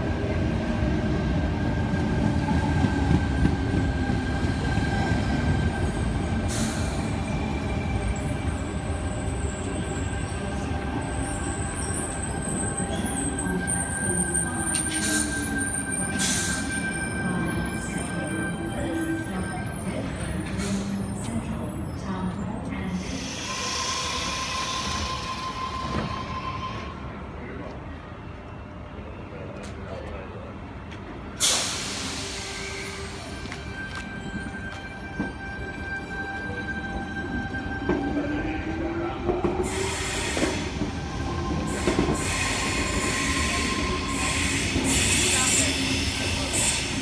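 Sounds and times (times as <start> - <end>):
rail and wheel noise: 0.0 - 47.0.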